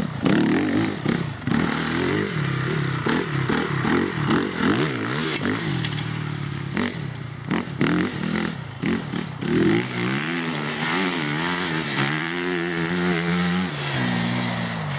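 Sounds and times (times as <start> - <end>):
motocross bike engine revving: 0.0 - 14.9.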